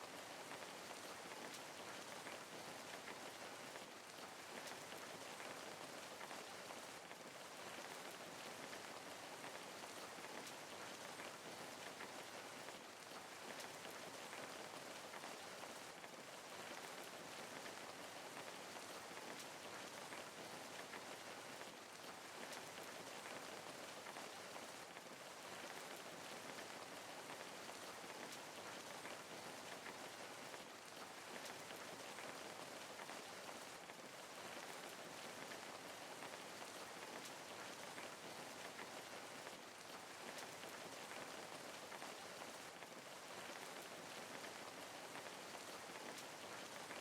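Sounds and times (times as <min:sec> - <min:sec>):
rain pattering: 0:00.0 - 0:47.0.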